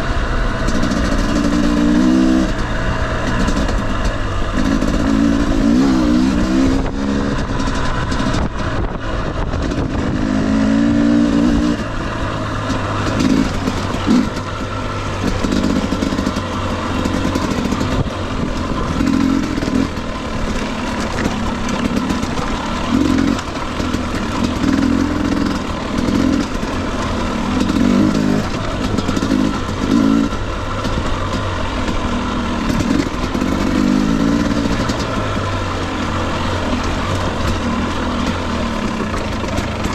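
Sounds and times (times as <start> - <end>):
dirt bike engine revving: 0.0 - 39.9
rough riding noise: 0.0 - 39.9.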